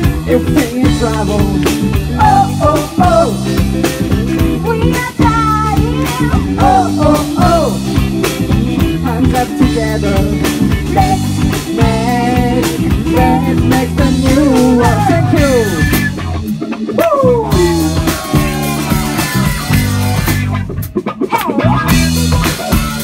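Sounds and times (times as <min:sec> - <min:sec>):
drum kit: 0:00.0 - 0:23.0
electric bass: 0:00.0 - 0:23.0
electric guitar: 0:00.0 - 0:23.0.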